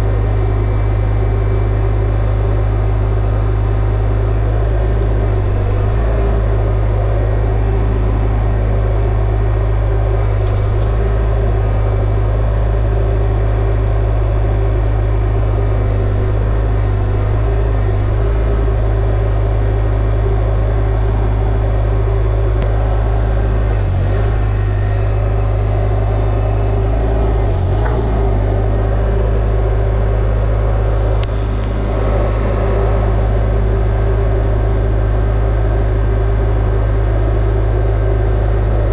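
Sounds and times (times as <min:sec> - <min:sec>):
crane engine humming: 0:00.0 - 0:38.9.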